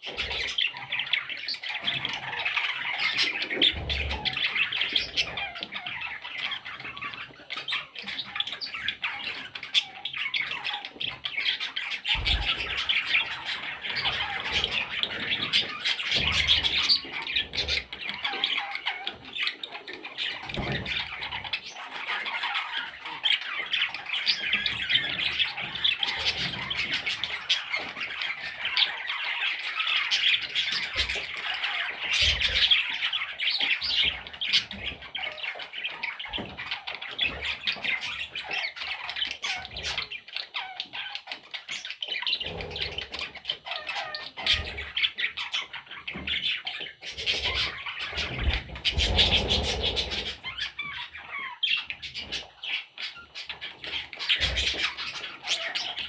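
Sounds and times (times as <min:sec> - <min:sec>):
chicks chirping and squawking: 0:00.0 - 0:56.0.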